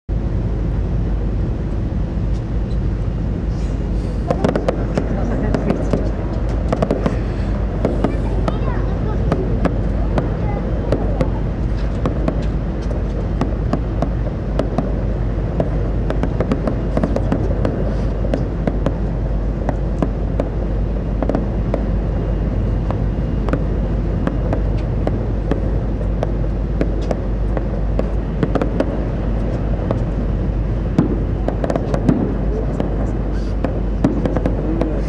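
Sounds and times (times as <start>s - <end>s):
ferry engine rumble: 0.1s - 35.0s.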